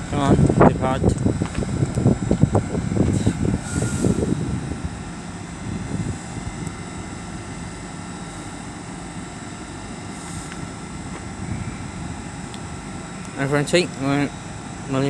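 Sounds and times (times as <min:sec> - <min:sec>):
faint steady tones: 0:00.0 - 0:15.0
train low rumble: 0:00.0 - 0:15.0.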